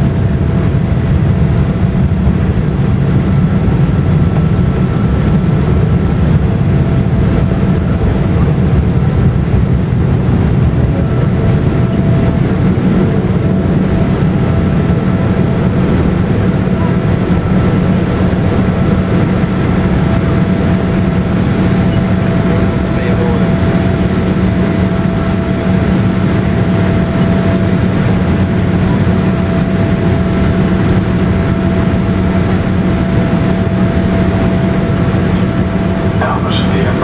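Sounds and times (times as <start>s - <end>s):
jet engines roaring in cabin: 0.0s - 37.0s.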